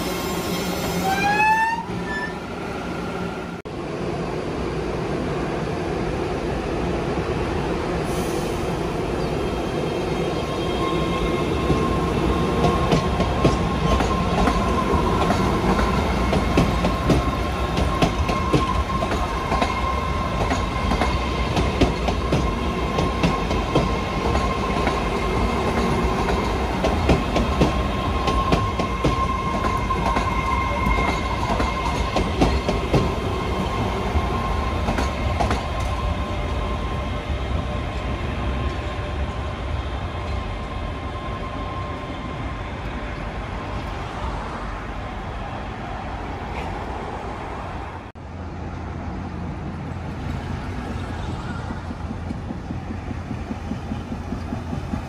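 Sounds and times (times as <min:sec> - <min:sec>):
subway train rolling: 0:00.0 - 0:55.0.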